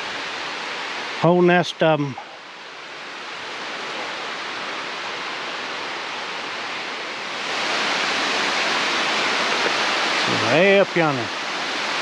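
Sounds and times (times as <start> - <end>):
rushing waterfall: 0.0 - 12.0.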